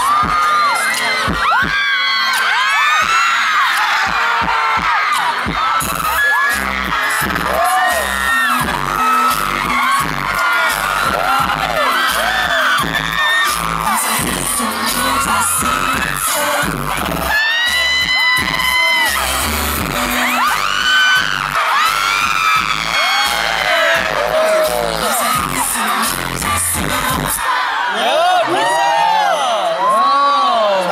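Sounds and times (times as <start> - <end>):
crowd screaming: 0.0 - 30.9
pop dance music over sound system: 0.0 - 30.9.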